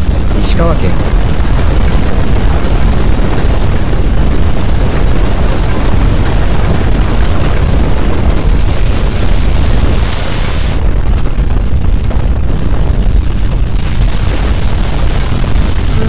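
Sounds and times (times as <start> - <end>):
earthquake rumbling: 0.0 - 16.0
small clicks and rattles: 0.4 - 10.0, 10.8 - 16.0.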